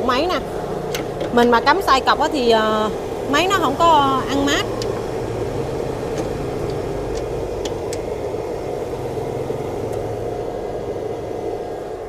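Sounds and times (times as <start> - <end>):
machine whirring hum: 0.0 - 12.0.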